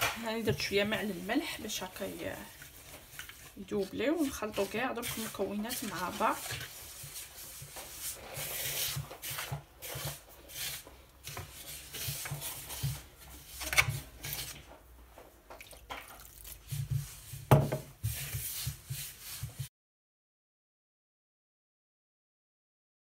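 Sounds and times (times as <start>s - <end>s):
hand scraping dough in wooden bowl: 0.1s - 15.4s, 16.0s - 19.7s.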